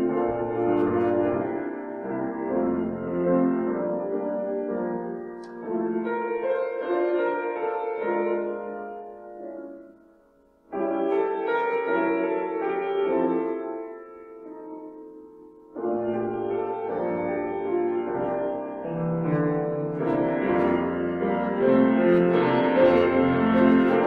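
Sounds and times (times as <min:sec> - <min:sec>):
slow keyboard chords: 0:00.0 - 0:24.0.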